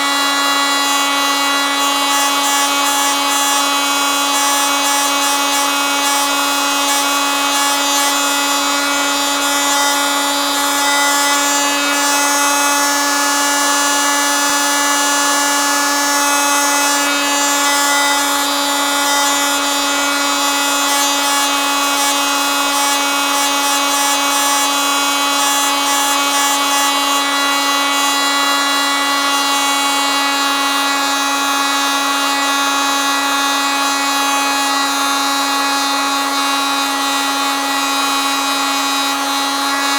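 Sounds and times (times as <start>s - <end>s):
multitool high-pitched buzz: 0.0s - 39.9s.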